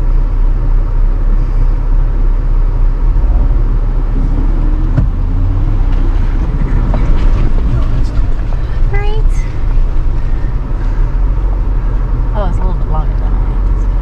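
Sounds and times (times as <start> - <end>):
car engine rumbling and revving: 0.0 - 14.0.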